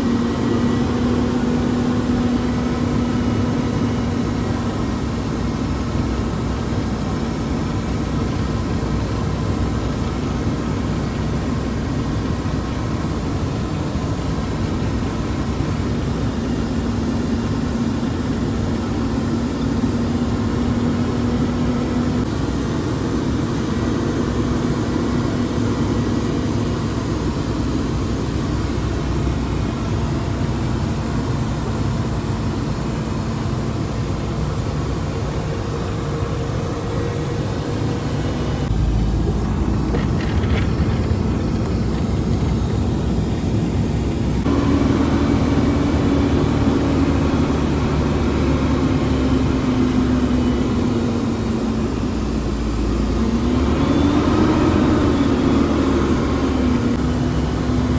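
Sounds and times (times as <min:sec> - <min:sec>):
heavy truck engine under load: 0:00.0 - 0:57.9
hum: 0:00.0 - 0:57.9.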